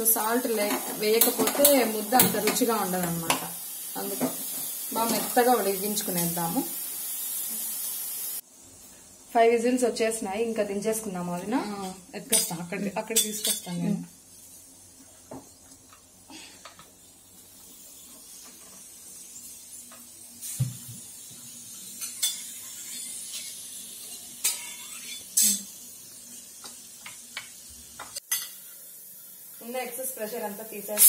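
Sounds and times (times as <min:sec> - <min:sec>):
faint steam hiss: 0:00.0 - 0:31.0.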